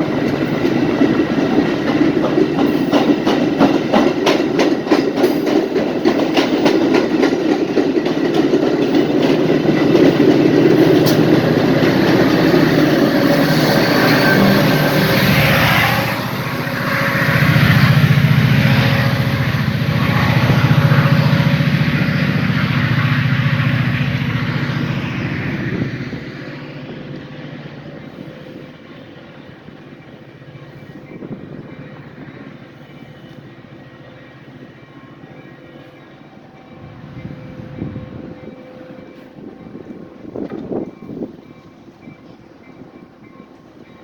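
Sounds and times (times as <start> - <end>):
diesel train rumbling past: 0.0 - 44.0.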